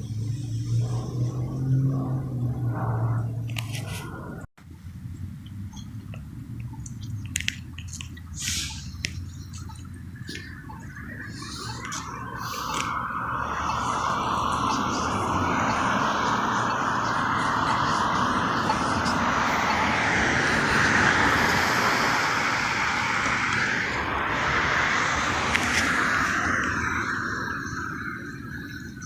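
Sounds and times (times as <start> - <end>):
vehicle passing by: 0.0 - 7.1, 8.0 - 29.0.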